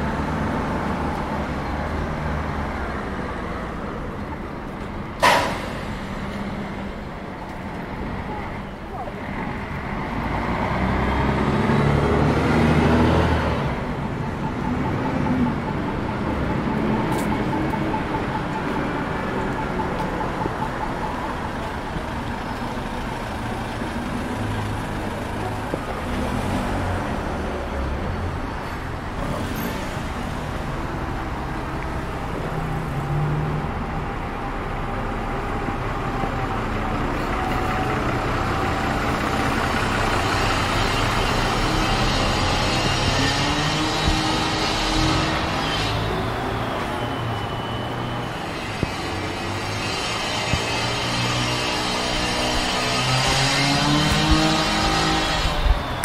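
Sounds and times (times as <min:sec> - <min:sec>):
heavy vehicle passing: 0:00.0 - 0:56.0
traffic passing on city road: 0:00.0 - 0:56.0.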